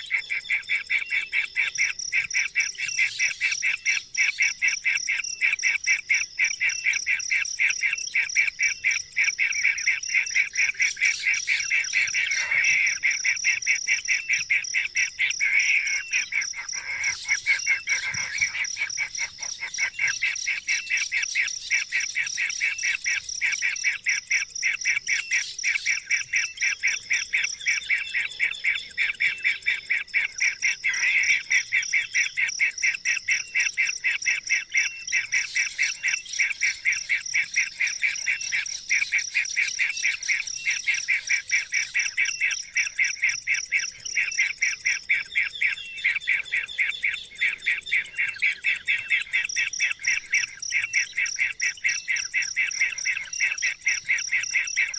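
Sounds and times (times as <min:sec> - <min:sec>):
bird chirping rapidly: 0:07.8 - 0:54.9.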